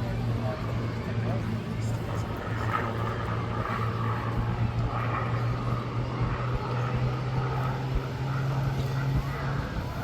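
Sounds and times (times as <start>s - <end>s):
propeller plane engine droning overhead: 0.0s - 10.0s.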